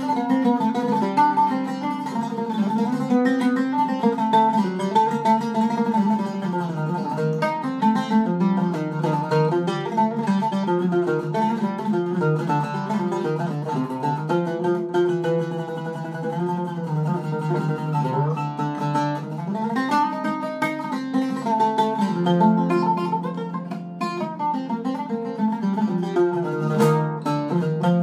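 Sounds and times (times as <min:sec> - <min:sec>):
oud played with a plectrum: 0:00.0 - 0:28.0.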